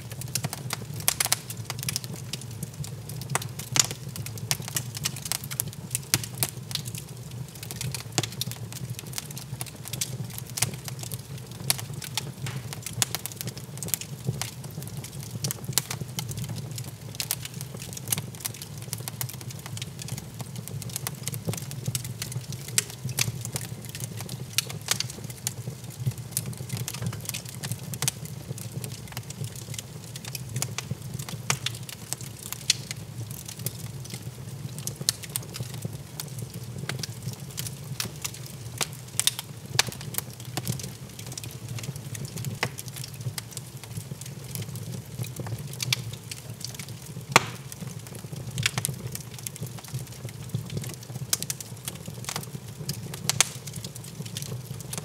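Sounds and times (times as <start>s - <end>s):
log fire crackling and popping: 0.0s - 55.0s.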